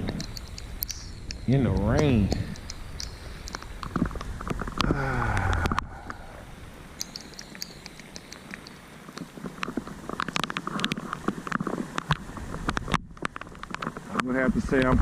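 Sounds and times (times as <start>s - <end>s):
irregular taps and clicks: 0.0s - 6.2s, 7.0s - 14.3s
rain pattering: 0.0s - 15.0s.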